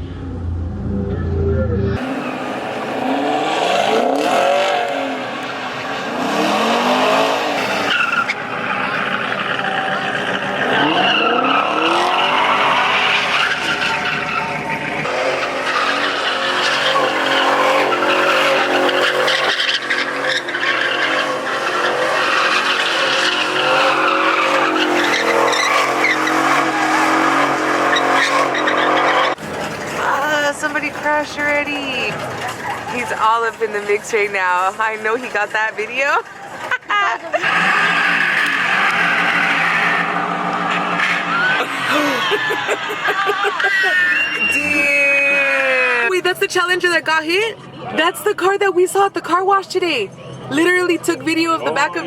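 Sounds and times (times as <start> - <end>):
tyres squealing and skidding: 0.0 - 34.2, 35.0 - 52.0
car engines revving: 0.0 - 52.0.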